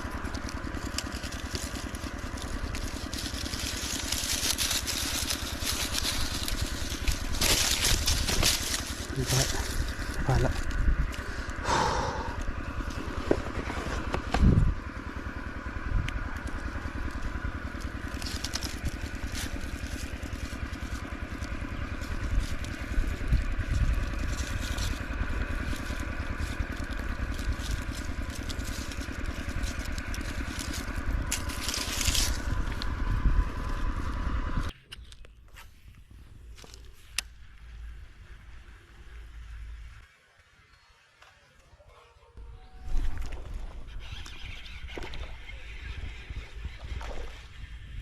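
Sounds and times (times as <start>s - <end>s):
small engine running: 0.0s - 34.8s, 36.1s - 41.2s, 42.4s - 48.0s.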